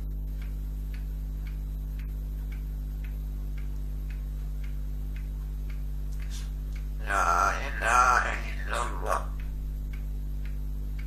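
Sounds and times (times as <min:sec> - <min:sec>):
low electrical hum: 0:00.0 - 0:11.0
regular ticking: 0:00.0 - 0:11.0.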